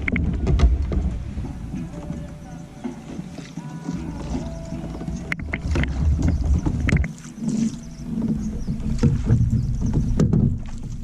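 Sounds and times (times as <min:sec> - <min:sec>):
knocks and scrapes against kayak hull: 0:00.0 - 0:11.0
wind on microphone: 0:00.0 - 0:11.0.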